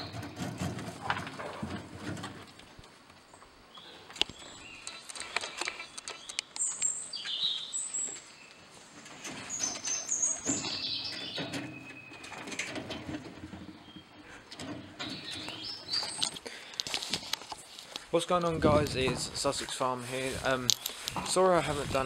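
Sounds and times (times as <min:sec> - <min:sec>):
sharp knocks and rustles: 0:00.0 - 0:03.5, 0:04.1 - 0:07.4, 0:08.0 - 0:22.0
birds chirping: 0:00.0 - 0:22.0.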